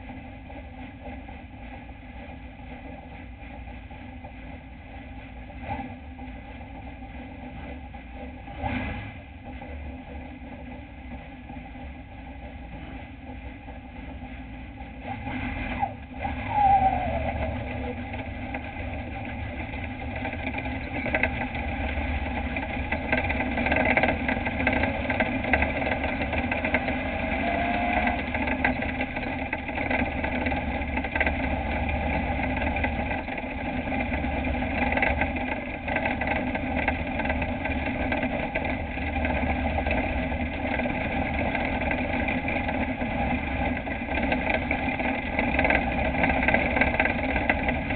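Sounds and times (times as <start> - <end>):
truck engine from inside cab: 0.0 - 47.9.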